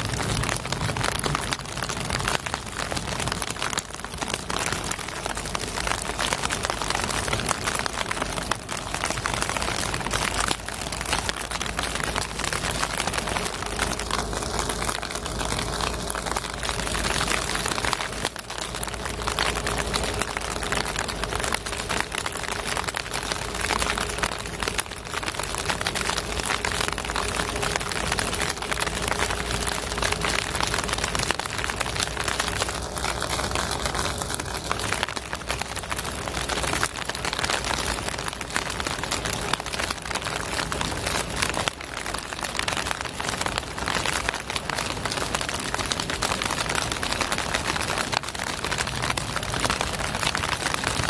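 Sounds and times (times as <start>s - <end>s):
rain pattering: 0.0s - 51.0s.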